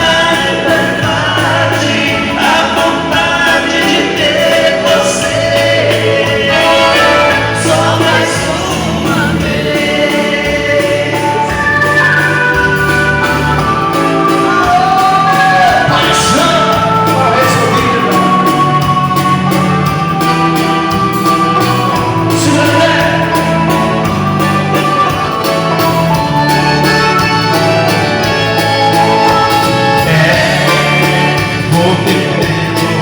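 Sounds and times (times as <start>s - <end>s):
live waltz music: 0.0s - 33.0s
person singing: 0.0s - 33.0s.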